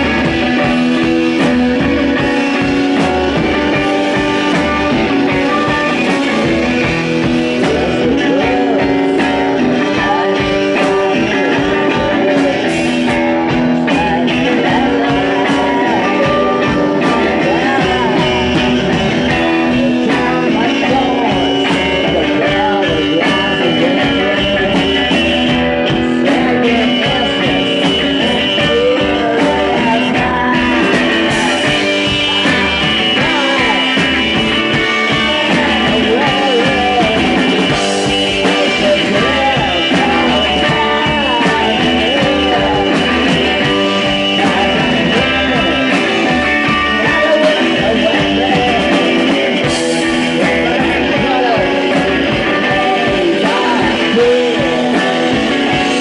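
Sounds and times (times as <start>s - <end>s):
driving drum beat: 0.0s - 56.0s
electric guitar: 0.0s - 56.0s
live rock band playing: 0.0s - 56.0s.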